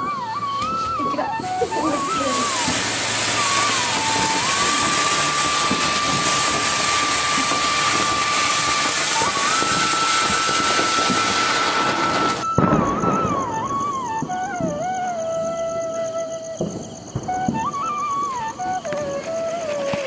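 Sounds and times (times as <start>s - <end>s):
firework fountain hissing: 0.0s - 20.0s
high whistling tone: 0.0s - 20.0s.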